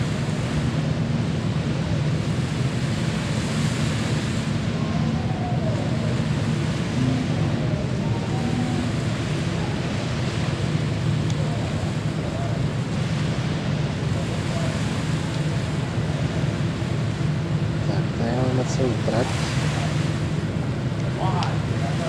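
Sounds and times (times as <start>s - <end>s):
sea noise: 0.0s - 22.0s
wind buffeting microphone: 0.0s - 22.0s.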